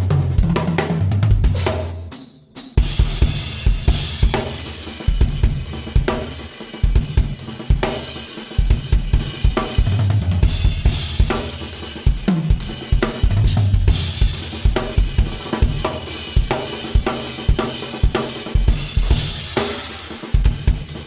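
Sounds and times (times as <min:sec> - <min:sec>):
drum kit groove: 0:00.0 - 0:21.0.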